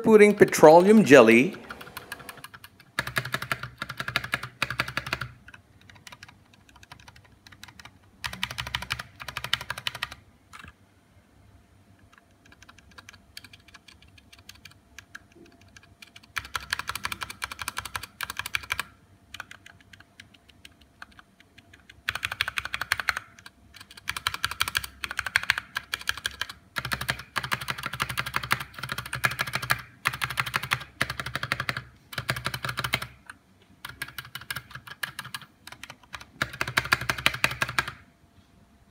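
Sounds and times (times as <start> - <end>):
keyboard keys clicking: 0.0 - 10.8, 12.0 - 33.2, 33.8 - 38.0.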